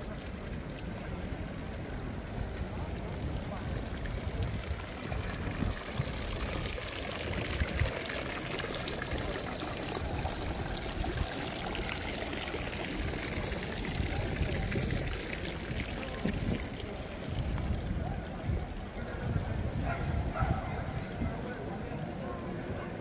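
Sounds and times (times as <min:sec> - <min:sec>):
fountain water splashing: 0:00.0 - 0:23.0.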